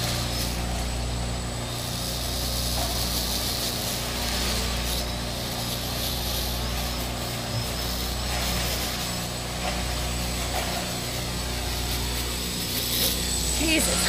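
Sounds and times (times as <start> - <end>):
quadcopter motors whirring: 0.0 - 14.0.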